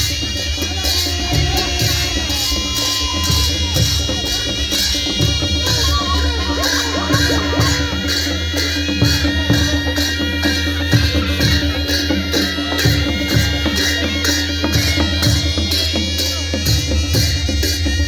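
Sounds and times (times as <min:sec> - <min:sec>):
loud music with drum beat: 0:00.0 - 0:18.0.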